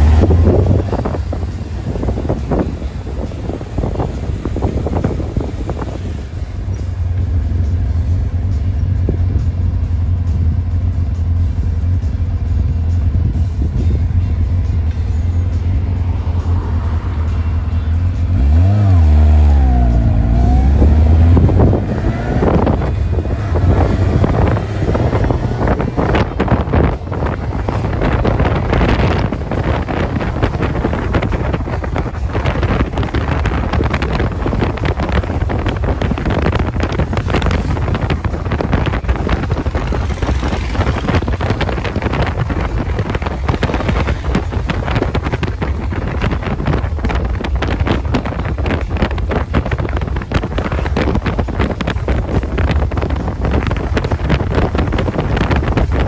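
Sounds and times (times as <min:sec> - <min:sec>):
motorcycle engine and road rumble: 0:00.0 - 0:56.0
wind buffeting microphone: 0:00.0 - 0:56.0.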